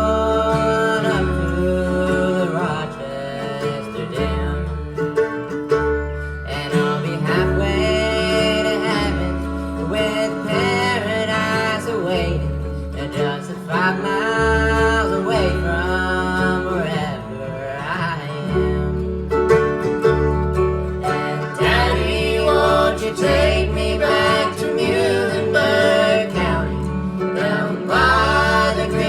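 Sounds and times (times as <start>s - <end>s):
bluegrass band playing: 0.0s - 29.0s.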